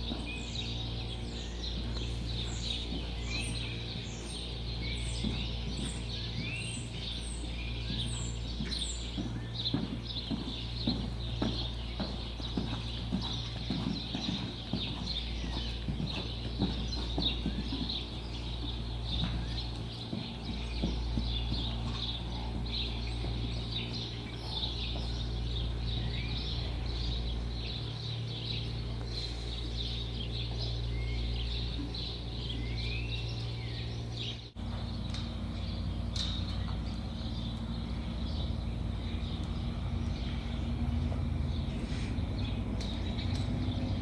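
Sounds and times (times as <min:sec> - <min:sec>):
small birds chirping: 0:00.0 - 0:44.0
steady low hum: 0:00.0 - 0:44.0.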